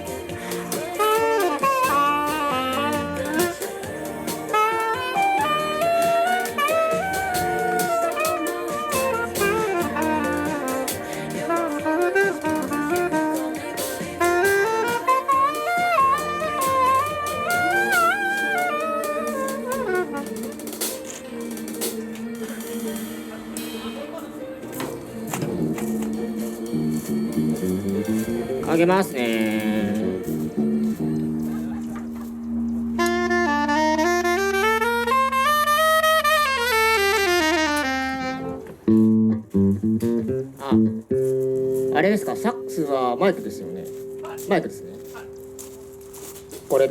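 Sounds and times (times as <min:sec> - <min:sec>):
saxophone melody: 0:00.0 - 0:46.9
small jazz band playing: 0:00.0 - 0:46.9.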